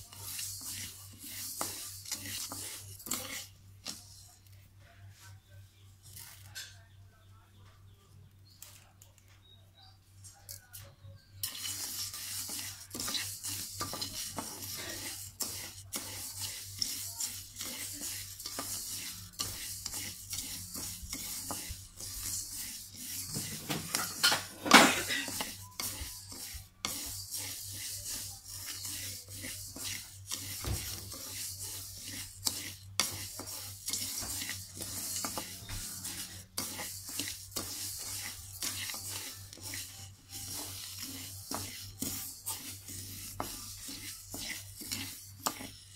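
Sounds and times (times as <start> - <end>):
spatula scraping rice in wok: 0.0 - 4.7, 11.4 - 45.9.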